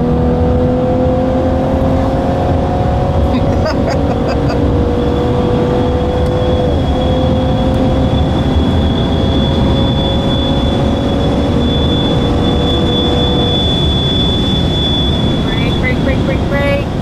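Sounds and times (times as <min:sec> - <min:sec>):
car engine running: 0:00.0 - 0:17.0
road and tyre noise: 0:00.0 - 0:17.0
thin high whine: 0:03.3 - 0:17.0.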